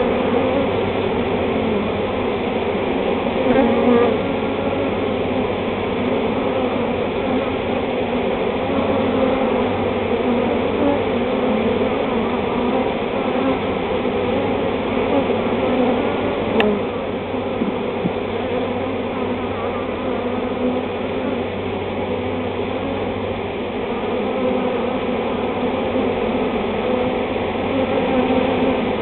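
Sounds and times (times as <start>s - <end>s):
bee swarm buzzing: 0.0s - 29.0s.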